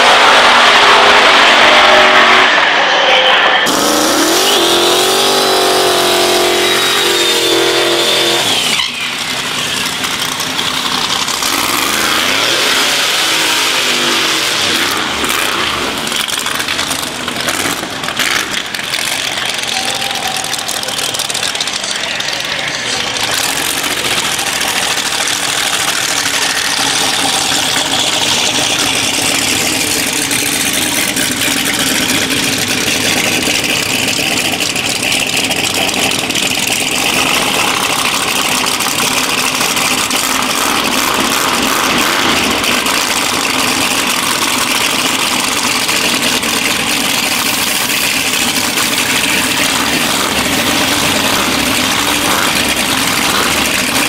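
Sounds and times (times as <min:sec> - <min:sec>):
high engine whine: 0:00.0 - 0:54.0
racing car engines revving: 0:00.0 - 0:54.0.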